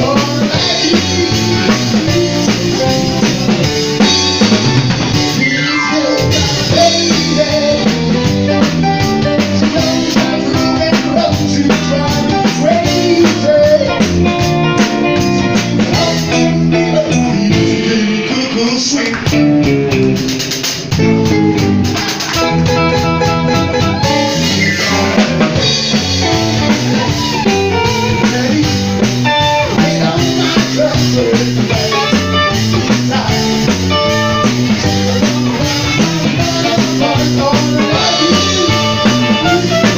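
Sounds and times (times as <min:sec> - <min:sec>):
person singing: 0:00.0 - 0:19.6, 0:20.9 - 0:39.9
drum kit: 0:00.0 - 0:39.9
electric guitar: 0:00.0 - 0:39.9.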